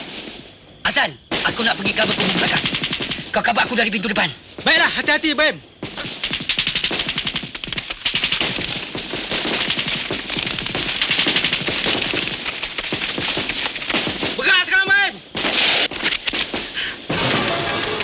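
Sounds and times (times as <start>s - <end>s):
automatic gunfire and rifle shots: 1.3s - 14.6s, 15.3s - 18.0s.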